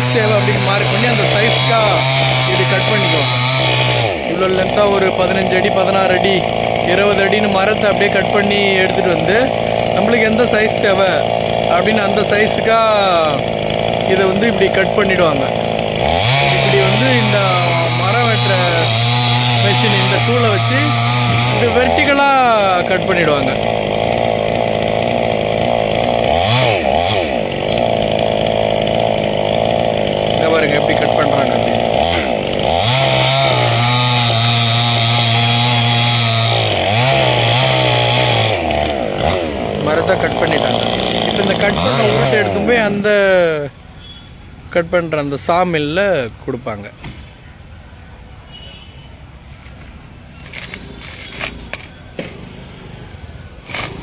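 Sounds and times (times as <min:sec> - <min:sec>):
chainsaw cutting log: 0:00.0 - 0:46.4, 0:49.4 - 0:54.0.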